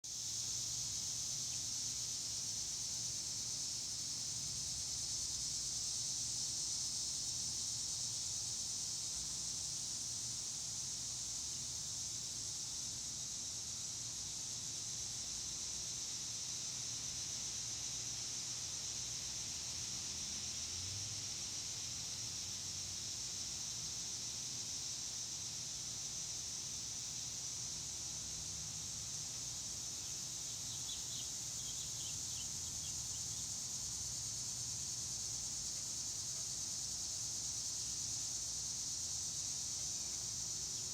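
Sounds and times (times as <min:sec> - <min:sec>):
high-pitched outdoor hiss: 0:00.0 - 0:40.9.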